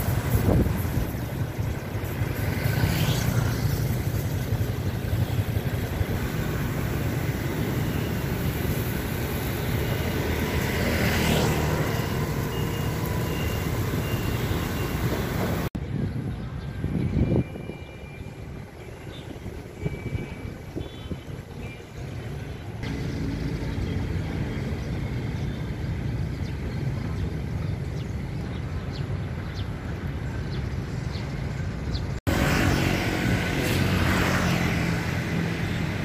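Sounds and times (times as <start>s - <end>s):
vehicles passing: 0.0s - 17.4s, 18.2s - 36.0s
traffic rumble: 0.0s - 36.0s.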